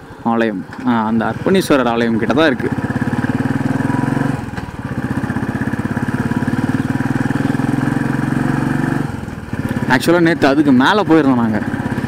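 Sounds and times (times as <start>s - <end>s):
motorcycle engine running: 1.0s - 12.0s.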